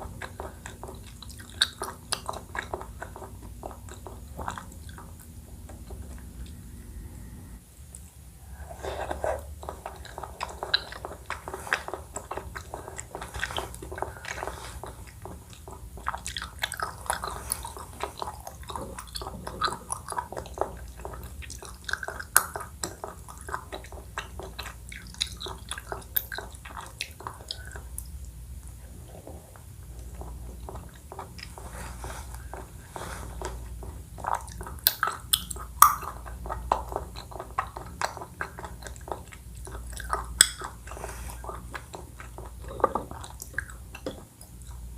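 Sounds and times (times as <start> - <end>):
chewing and biting: 0.0 - 6.6, 9.0 - 28.3, 28.9 - 44.9.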